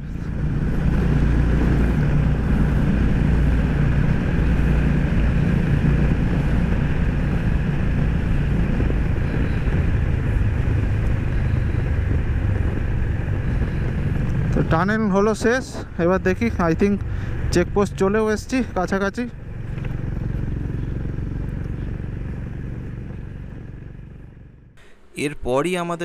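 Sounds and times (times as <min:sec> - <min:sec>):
motorcycle engine running: 0:00.0 - 0:24.9
tunnel noise rush: 0:00.0 - 0:26.0.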